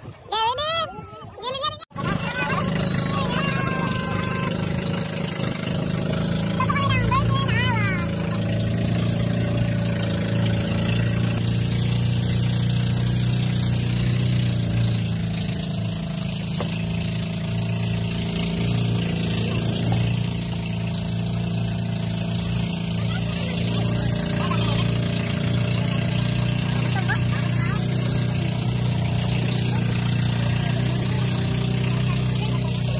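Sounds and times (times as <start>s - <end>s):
boat engine droning: 0.0s - 32.9s.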